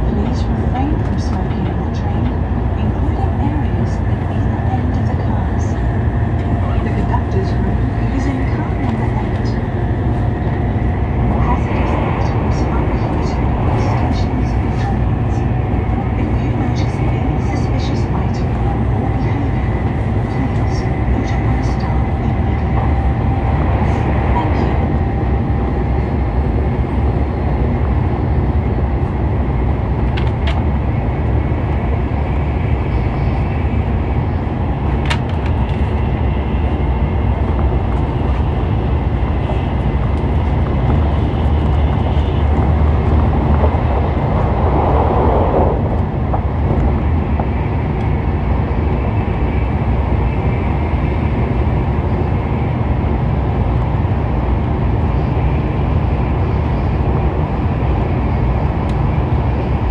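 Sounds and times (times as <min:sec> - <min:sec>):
train running noise inside cabin: 0:00.0 - 0:59.9.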